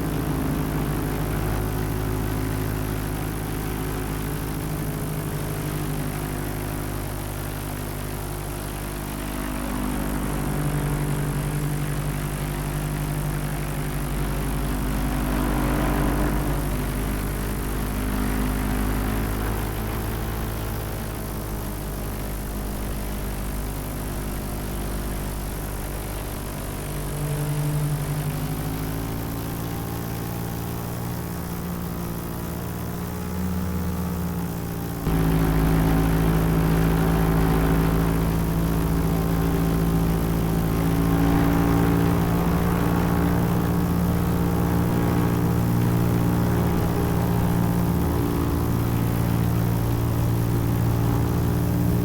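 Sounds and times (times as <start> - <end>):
paramotor engine droning: 0.0 - 52.0.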